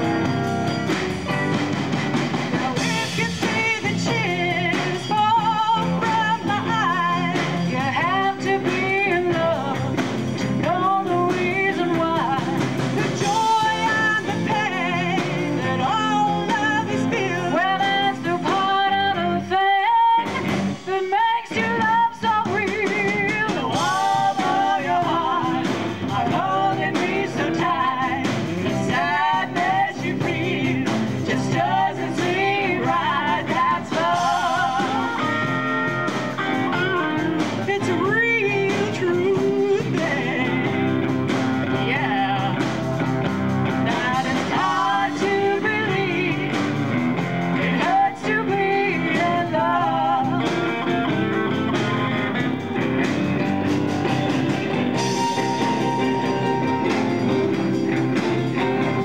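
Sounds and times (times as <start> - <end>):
drums: 0.0 - 59.0
electric guitar: 0.0 - 59.0
women singing: 2.6 - 52.2.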